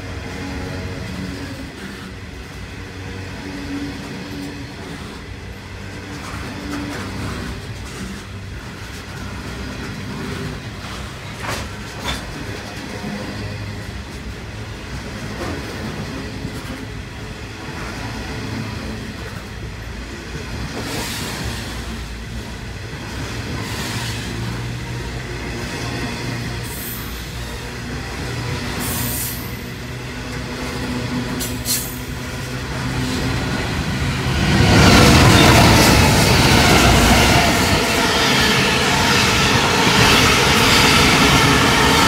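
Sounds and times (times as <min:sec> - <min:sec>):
train wagons rumbling on rails: 0:00.0 - 0:42.0.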